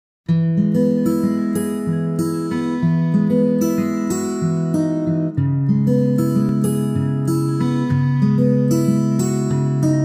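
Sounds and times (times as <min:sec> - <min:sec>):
plucked and strummed acoustic guitar: 0:00.3 - 0:10.0.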